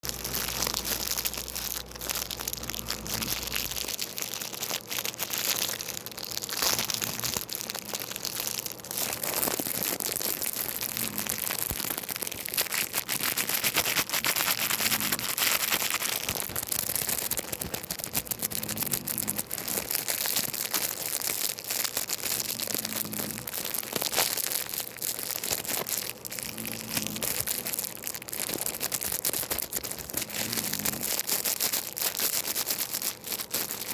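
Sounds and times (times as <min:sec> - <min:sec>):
crinkling and crackling of handling: 0:00.0 - 0:33.9.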